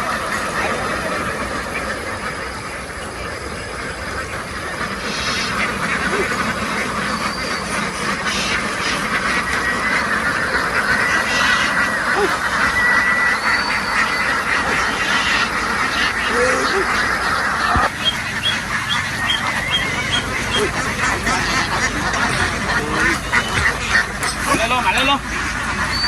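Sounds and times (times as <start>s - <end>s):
flock of ducks quacking: 0.0s - 26.0s.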